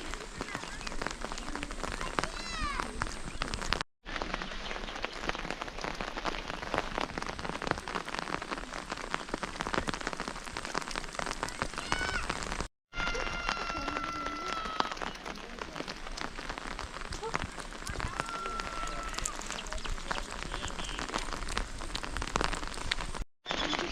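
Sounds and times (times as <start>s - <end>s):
rain patter: 0.0s - 23.9s.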